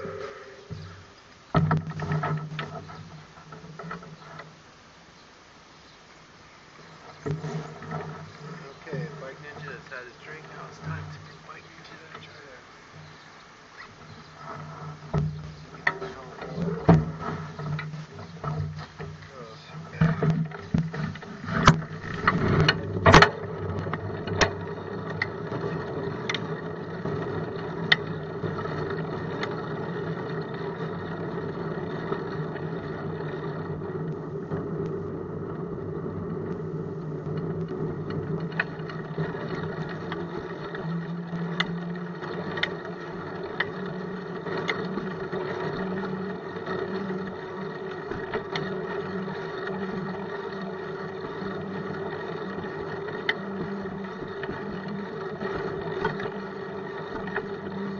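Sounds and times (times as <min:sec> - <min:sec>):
bicycle drone and rattle: 0:00.0 - 0:57.9
wheels knocking over bumps: 0:00.0 - 0:57.9.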